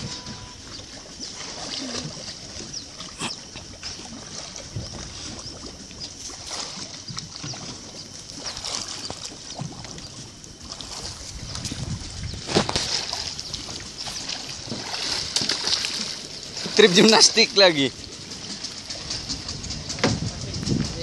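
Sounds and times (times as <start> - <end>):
person swimming splashes: 0.0 - 19.4
sea water lapping: 0.0 - 21.0.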